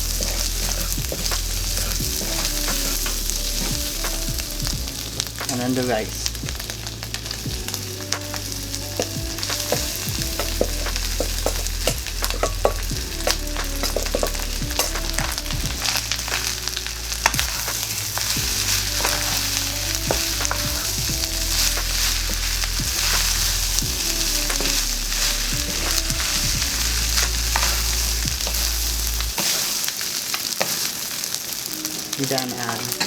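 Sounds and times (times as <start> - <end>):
spatula scraping a wok: 0.0 - 31.1
food sizzling in a wok: 0.0 - 33.0
quiet background music: 0.0 - 33.0.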